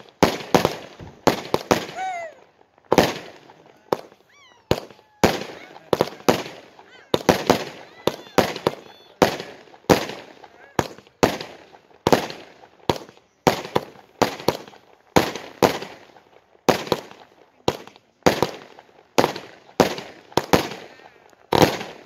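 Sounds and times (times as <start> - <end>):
fireworks bangs echoing: 0.0 - 22.0.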